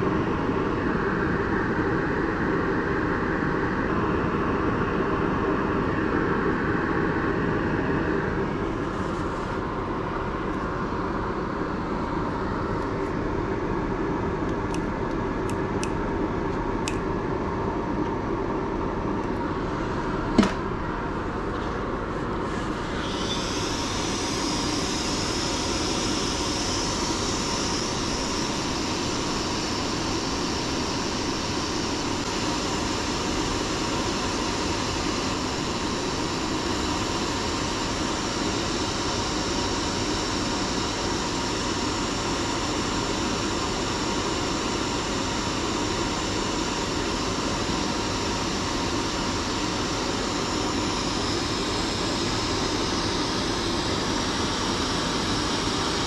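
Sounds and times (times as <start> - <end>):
blower rushing air: 0.0 - 56.0.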